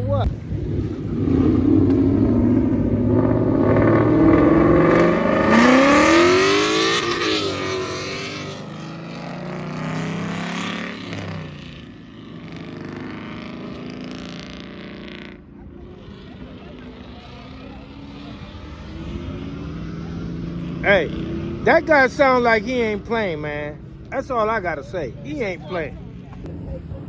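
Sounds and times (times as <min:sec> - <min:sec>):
car engine revving and accelerating: 0:00.0 - 0:27.0.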